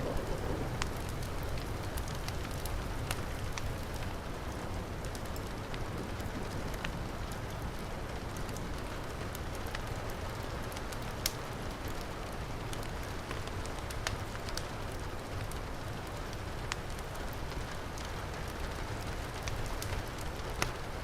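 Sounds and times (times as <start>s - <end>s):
heavy rain falling: 0.0s - 21.0s
wood fire crackling: 0.0s - 21.0s.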